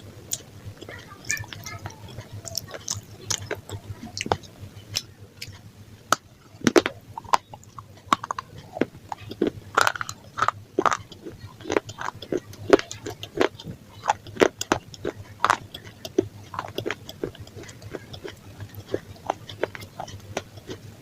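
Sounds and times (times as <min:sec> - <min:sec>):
chewing crunchy pizza: 0:00.0 - 0:21.0.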